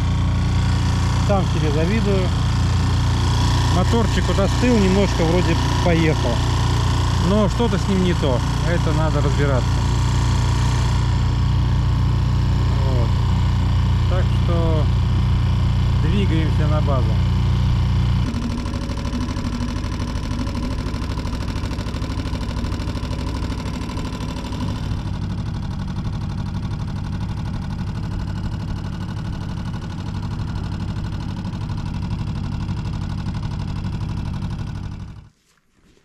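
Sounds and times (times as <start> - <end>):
outboard motor running: 0.0 - 35.3.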